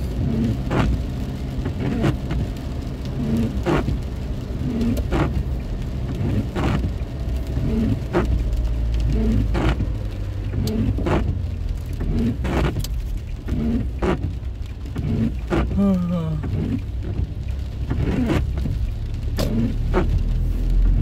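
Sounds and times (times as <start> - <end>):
engine and road rumble: 0.0 - 21.0
rain: 0.0 - 21.0
windscreen wiper stroke: 0.0 - 21.0.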